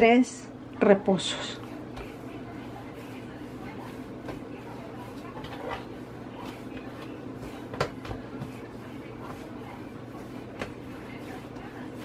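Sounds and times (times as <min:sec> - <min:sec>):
steady low hum: 0:00.0 - 0:12.0
hands kneading dough: 0:01.0 - 0:12.0.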